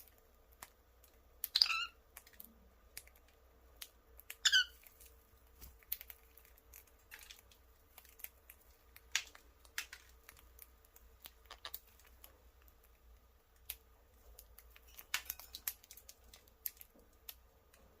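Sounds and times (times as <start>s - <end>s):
birds cracking seeds: 0.0s - 18.0s.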